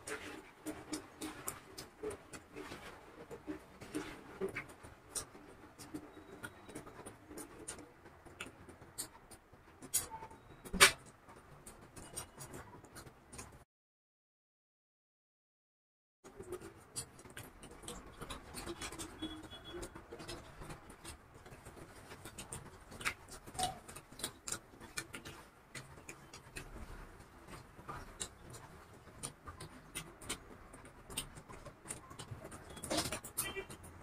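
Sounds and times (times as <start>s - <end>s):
chewing and lip smacks: 0.0s - 10.6s, 16.3s - 34.0s.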